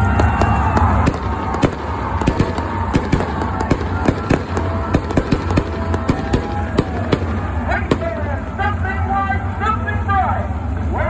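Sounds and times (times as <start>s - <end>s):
race car engines rumbling: 0.0s - 11.0s.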